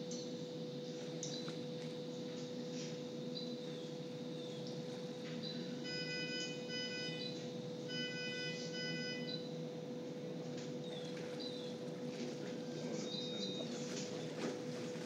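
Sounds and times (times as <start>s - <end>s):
constant hum: 0.0s - 15.0s.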